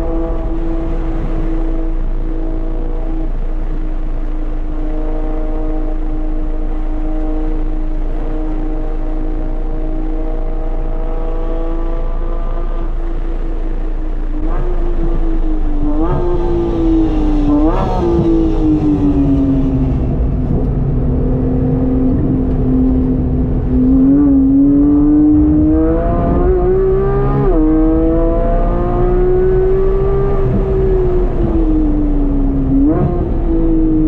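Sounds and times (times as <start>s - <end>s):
sports car engine revving: 0.0s - 34.0s.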